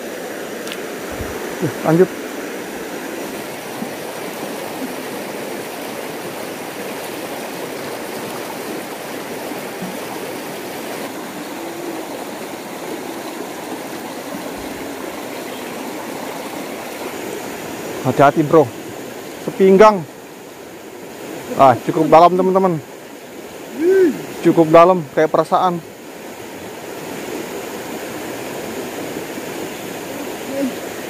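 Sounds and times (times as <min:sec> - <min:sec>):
river rushing over stones: 0:00.0 - 0:31.0.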